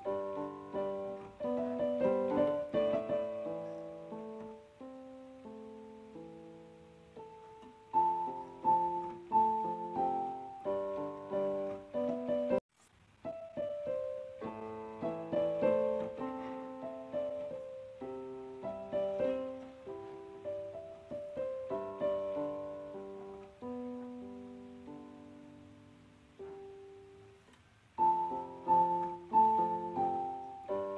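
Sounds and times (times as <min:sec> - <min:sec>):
gentle piano melody: 0:00.0 - 0:30.9.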